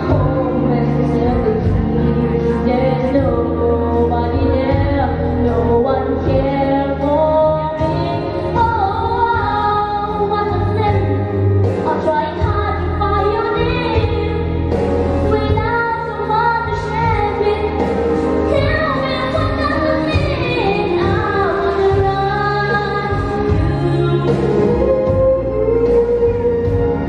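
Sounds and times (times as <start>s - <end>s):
backing music: 0.0s - 27.0s
girl singing into a microphone: 0.0s - 27.0s.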